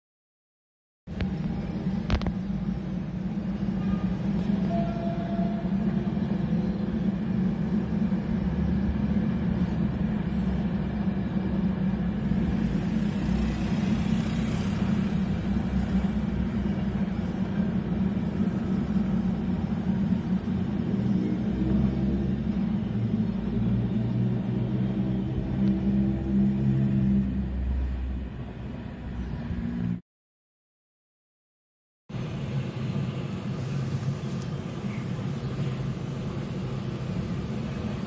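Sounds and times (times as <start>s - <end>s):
freight train rumbling: 1.1s - 30.0s, 32.1s - 38.0s.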